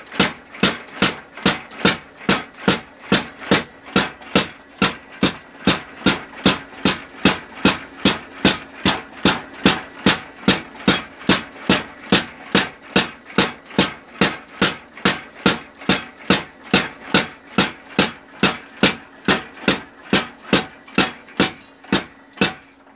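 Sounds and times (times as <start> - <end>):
faint machine hum: 0.0 - 22.9
power hammer pounding hot steel: 0.1 - 22.7.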